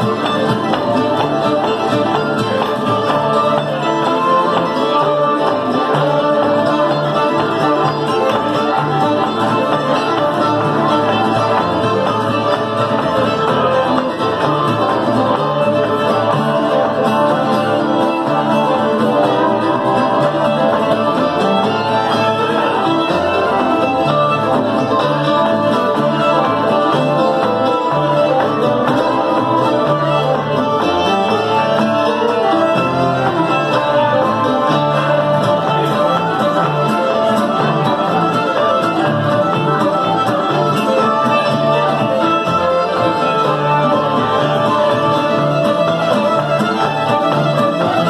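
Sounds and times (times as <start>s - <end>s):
fiddles playing melody: 0.0s - 48.0s
strummed acoustic guitar: 0.0s - 48.0s.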